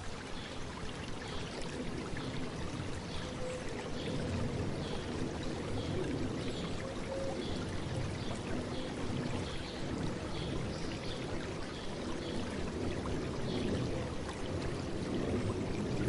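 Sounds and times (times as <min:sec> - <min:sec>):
river flowing and babbling: 0:00.0 - 0:16.0.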